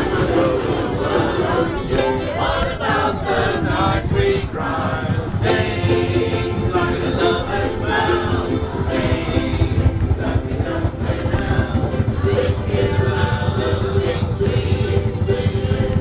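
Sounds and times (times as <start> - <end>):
group singing in unison: 0.0 - 16.0
railway carriage rumble: 0.0 - 16.0
ukuleles strumming: 0.0 - 16.0.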